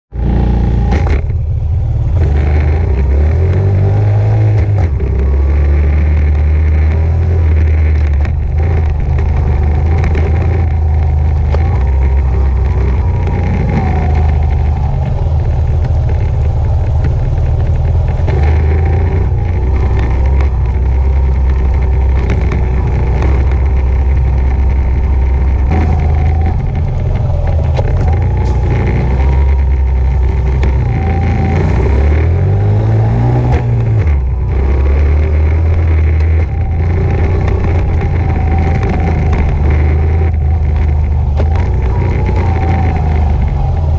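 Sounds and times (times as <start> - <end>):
heavy low rumble: 0.1 - 43.9
dirt bike engine revving: 2.0 - 43.9.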